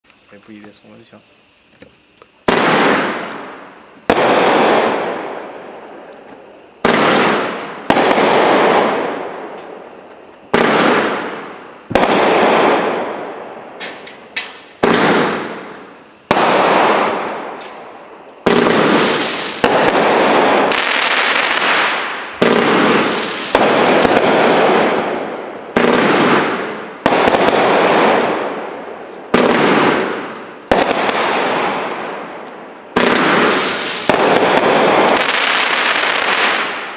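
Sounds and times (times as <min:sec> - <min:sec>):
fireworks bangs: 0:01.8 - 0:36.9.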